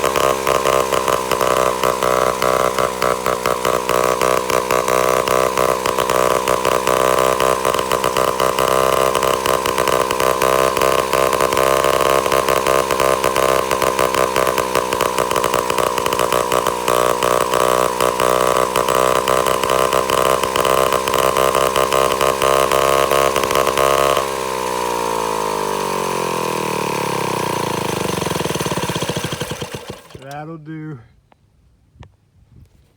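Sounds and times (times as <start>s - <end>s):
engine and gearbox rattling: 0.0s - 30.6s.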